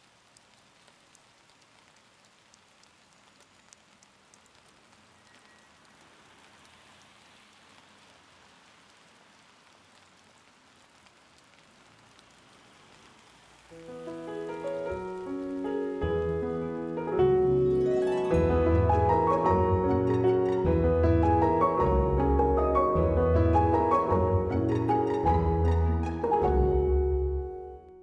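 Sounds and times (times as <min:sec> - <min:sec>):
light rain on asphalt: 0:00.0 - 0:28.0.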